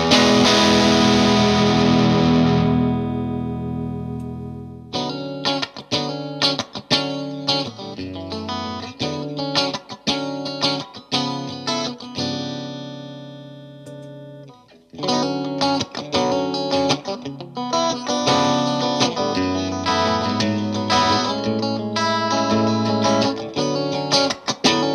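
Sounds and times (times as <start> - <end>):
electric guitar playing: 0.0 - 24.9.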